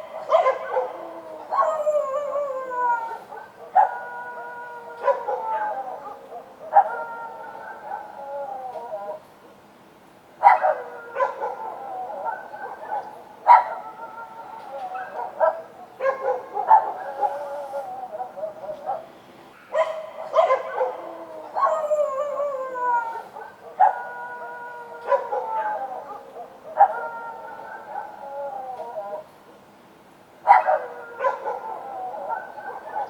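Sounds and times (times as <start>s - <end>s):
dogs barking: 0.0s - 2.3s, 3.1s - 8.2s, 10.4s - 14.1s, 14.8s - 22.4s, 23.3s - 29.0s, 30.4s - 33.0s
dogs howling: 0.0s - 9.3s, 10.4s - 19.1s, 19.7s - 29.3s, 30.5s - 33.0s.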